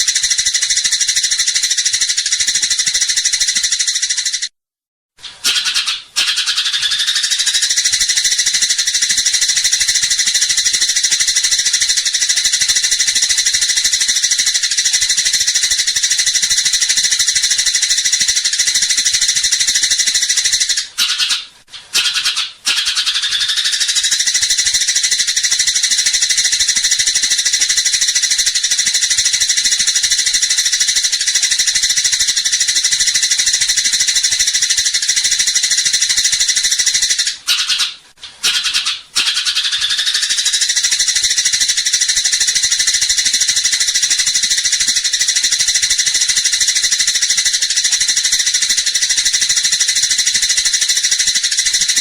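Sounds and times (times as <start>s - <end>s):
sparrows chattering: 0.0s - 4.5s, 5.4s - 52.0s.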